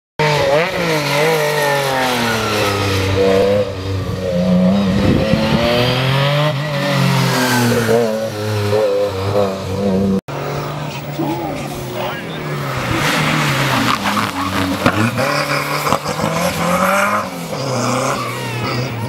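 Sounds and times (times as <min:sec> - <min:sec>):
rally car engine revving: 0:00.2 - 0:19.0.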